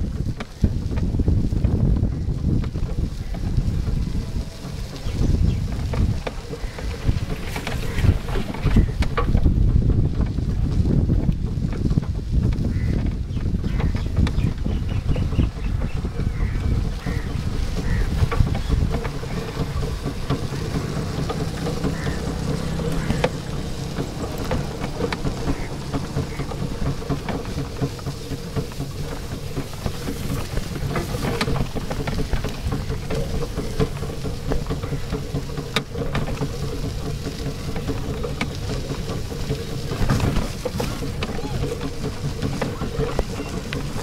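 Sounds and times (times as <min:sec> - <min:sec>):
rickshaw frame and tyres rattling: 0:00.0 - 0:44.0.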